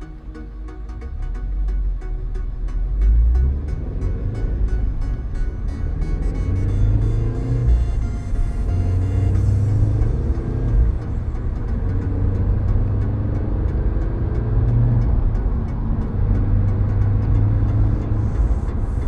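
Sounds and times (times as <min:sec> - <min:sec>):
car engine droning: 0:00.0 - 0:19.0
hi-hat ticking: 0:00.0 - 0:19.0
pop song over car speakers: 0:00.0 - 0:19.0.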